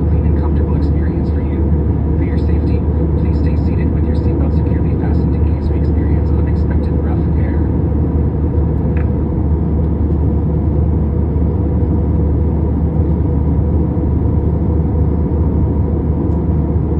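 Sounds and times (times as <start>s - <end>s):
aircraft engines rumbling in cabin: 0.0s - 16.9s.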